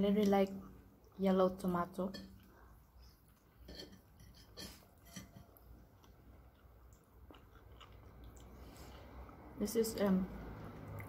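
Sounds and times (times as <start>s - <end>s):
faint chewing: 0.2s - 9.5s.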